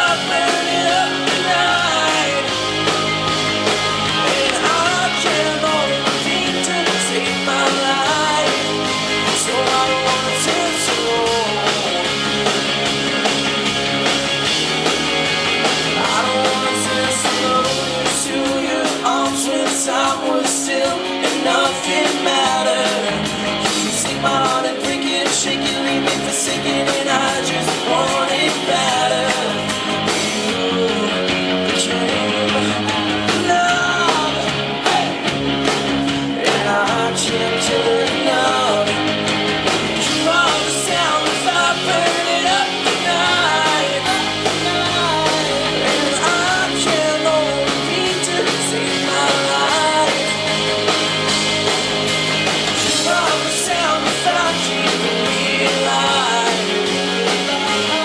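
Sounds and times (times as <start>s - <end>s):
male lead vocal singing: 0.0s - 3.1s, 3.9s - 12.6s, 15.9s - 35.2s, 36.2s - 50.9s, 52.7s - 58.0s
drums: 0.0s - 58.0s
electric guitars: 0.0s - 58.0s.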